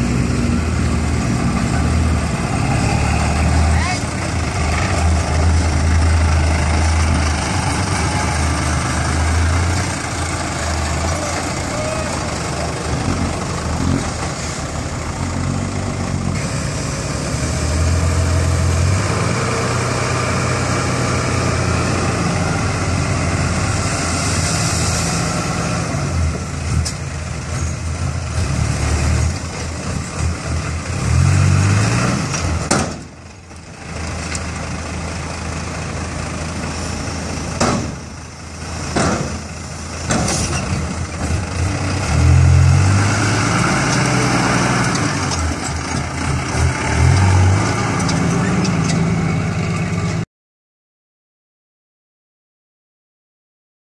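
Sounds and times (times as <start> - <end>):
diesel truck engine revving: 0.0 - 50.2.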